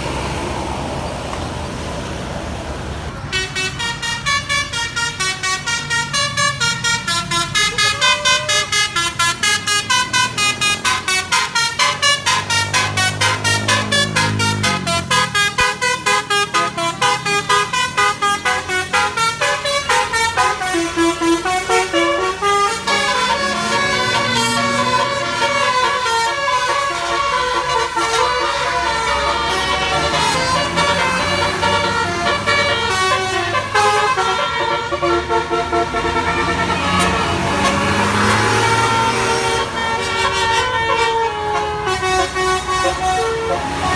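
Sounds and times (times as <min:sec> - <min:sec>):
bus musical air horn melody: 0:03.2 - 0:43.9.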